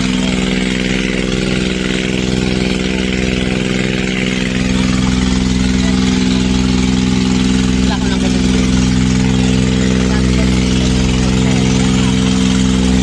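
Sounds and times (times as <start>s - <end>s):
boat engine running: 0.0s - 13.0s
water splashing: 0.0s - 13.0s.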